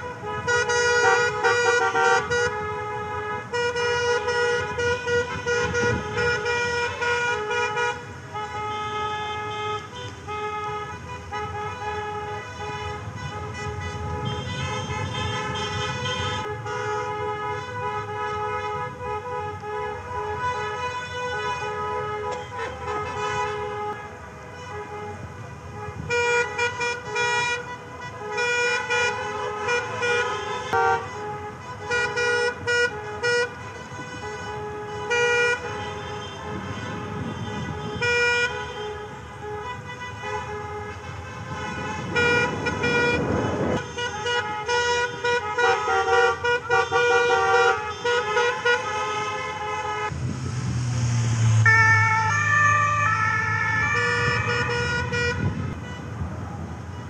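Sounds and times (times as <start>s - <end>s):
car horns honking: 0.0s - 50.2s, 51.4s - 56.2s
loud low-pitched horn: 0.0s - 50.3s, 53.8s - 56.0s
traffic noise: 0.0s - 57.0s.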